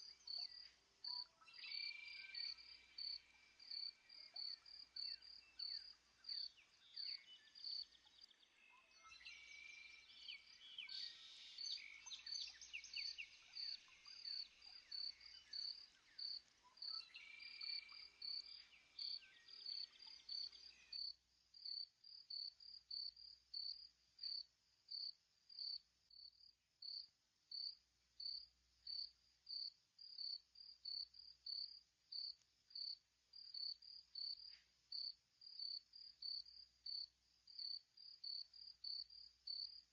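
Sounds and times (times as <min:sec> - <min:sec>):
cricket chirping rhythmically: 0:00.0 - 0:39.9.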